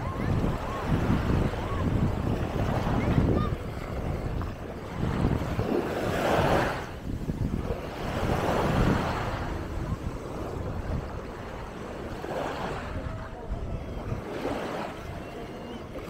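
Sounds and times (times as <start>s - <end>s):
small waves breaking on sand: 0.0s - 16.0s
wind rumble on microphone: 0.0s - 16.0s.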